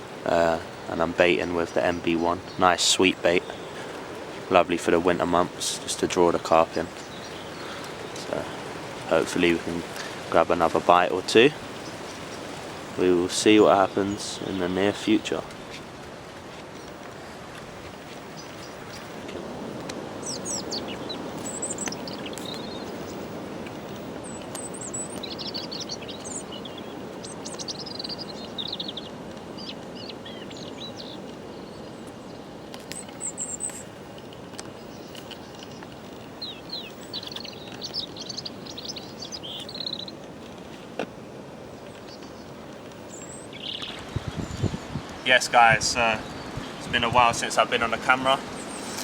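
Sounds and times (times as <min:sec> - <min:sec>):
small birds chirping and trilling: 0:00.0 - 0:41.0, 0:41.7 - 0:49.0
steady rushing noise: 0:00.0 - 0:49.0.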